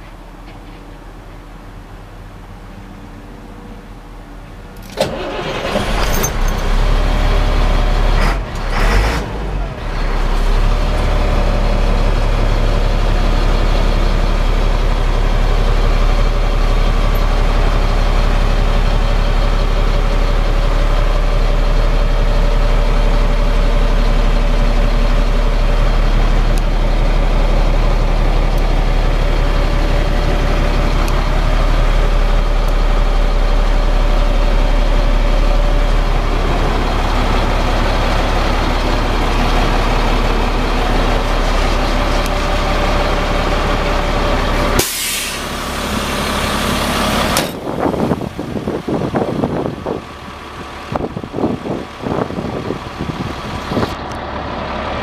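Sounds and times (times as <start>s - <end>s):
diesel engine idling: 0.0s - 55.0s
diesel truck engine cranking: 4.7s - 55.0s.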